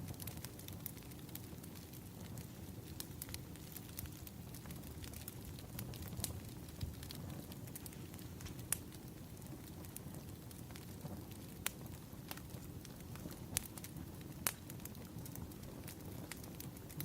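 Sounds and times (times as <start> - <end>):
burning logs crackling: 0.0 - 17.0.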